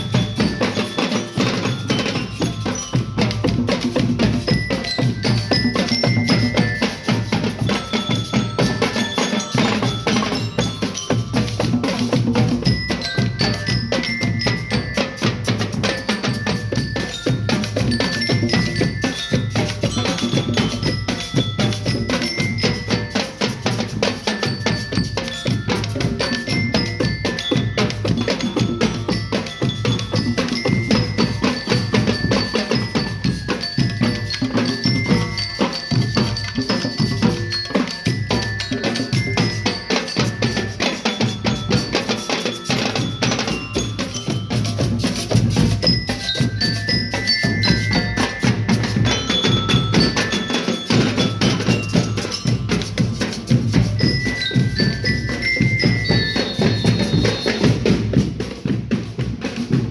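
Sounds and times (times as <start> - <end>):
glockenspiel melody: 0.0 - 59.2
marching band drums: 0.0 - 59.9.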